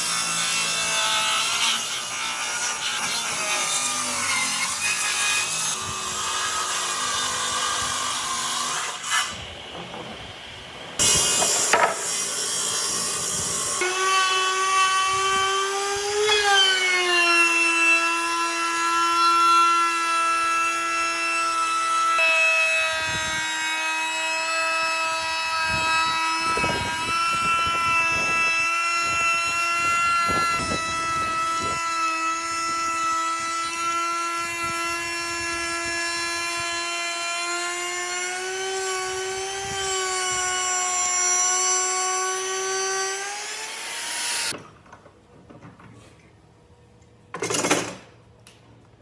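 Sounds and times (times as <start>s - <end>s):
power tool whining on wood: 0.0s - 9.4s, 11.0s - 44.6s.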